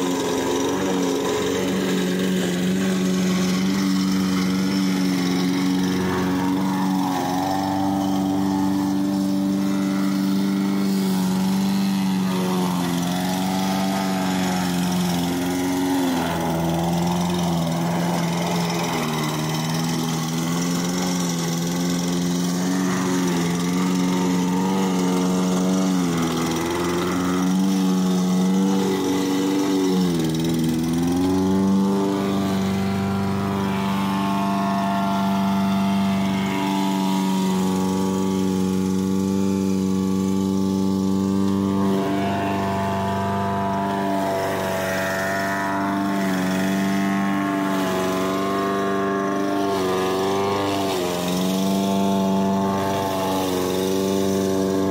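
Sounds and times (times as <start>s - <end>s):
lawnmower engine running: 0.0s - 54.9s.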